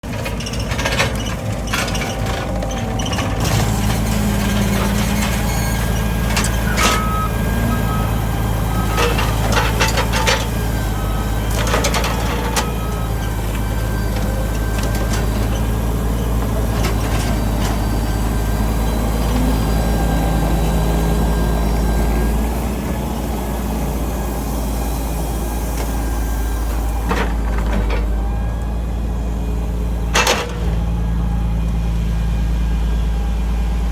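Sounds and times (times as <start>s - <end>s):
heavy engine running: 0.0s - 33.9s.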